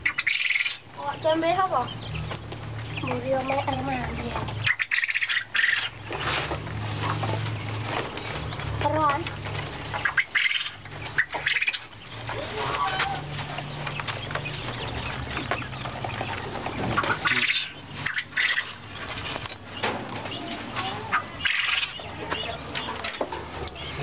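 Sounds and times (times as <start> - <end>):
quail calling: 0.0 - 24.0.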